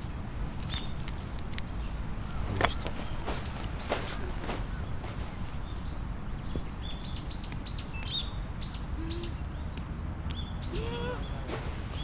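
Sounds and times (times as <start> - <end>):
low background rush: 0.0 - 12.0
bird chirping: 1.7 - 12.0.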